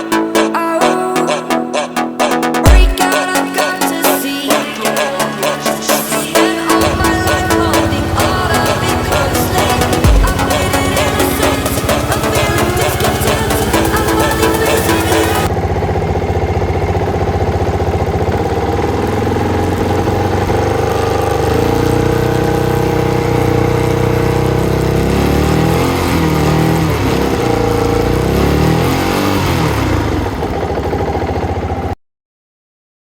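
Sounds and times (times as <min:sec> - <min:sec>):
motorcycle engine revving: 0:04.6 - 0:31.9.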